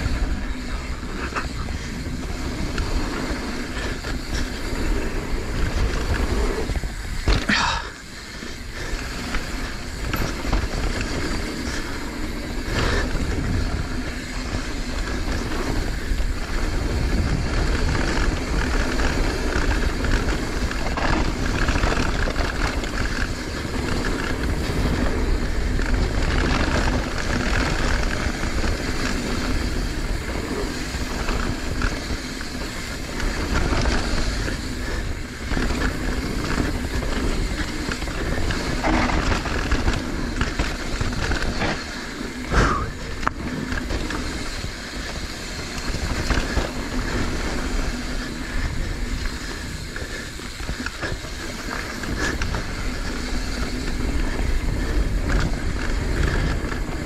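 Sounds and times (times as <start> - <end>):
bike clattering over rough ground: 0.0 - 57.0
bike tyre roar: 0.0 - 57.0
wind buffeting microphone: 0.0 - 57.0.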